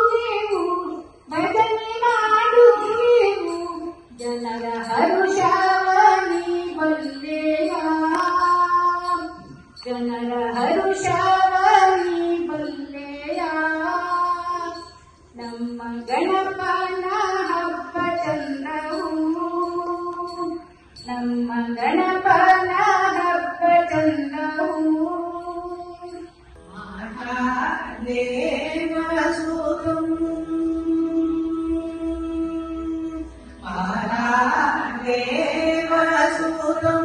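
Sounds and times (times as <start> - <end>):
elderly woman singing: 0.0 - 37.0.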